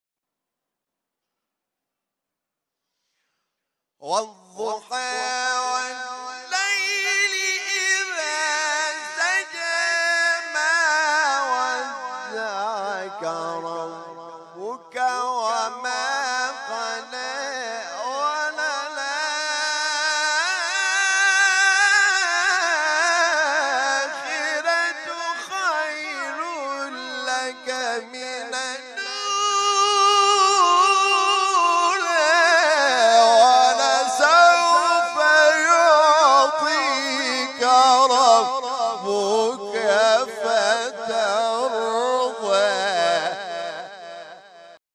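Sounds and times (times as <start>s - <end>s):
man chanting melodically: 4.0s - 44.8s.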